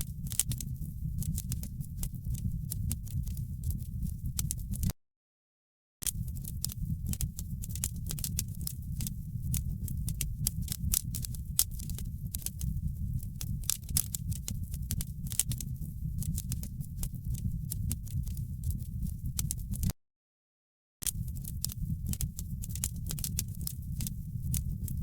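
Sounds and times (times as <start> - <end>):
low rumble of flames: 0.0 - 4.9, 6.1 - 19.9, 21.1 - 25.0
wood fire crackling and popping: 0.1 - 4.9, 6.1 - 19.9, 21.0 - 25.0.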